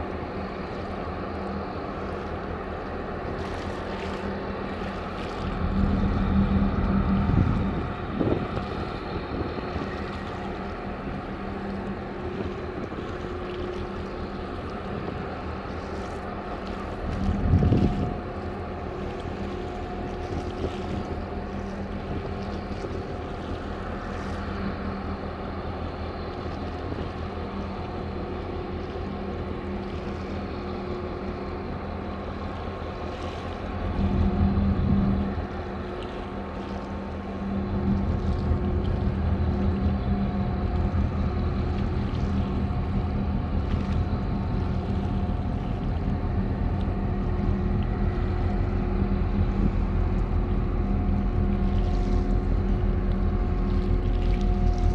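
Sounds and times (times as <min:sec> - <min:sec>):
boat engine humming: 0:00.0 - 0:54.9
wind rumbling on microphone: 0:00.0 - 0:54.9.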